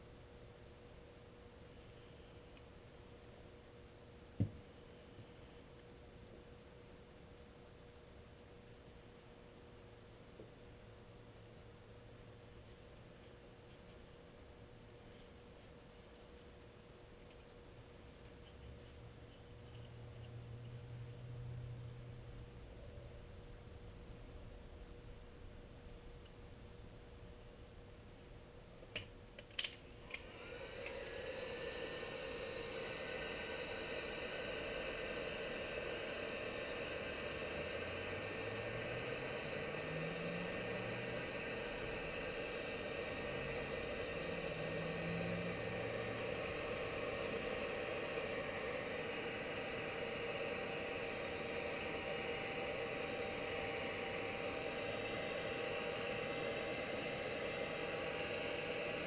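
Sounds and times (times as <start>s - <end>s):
machine hum: 0.0s - 59.0s.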